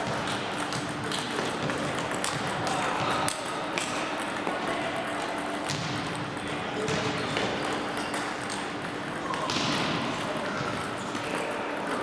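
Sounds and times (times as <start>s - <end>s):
steady hall hum: 0.0s - 12.0s.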